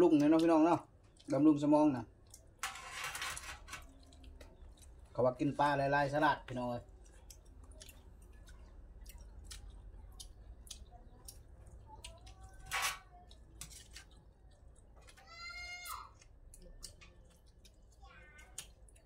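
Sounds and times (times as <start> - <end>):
wet chewing: 0.0 - 2.6, 3.8 - 5.6, 6.4 - 19.0.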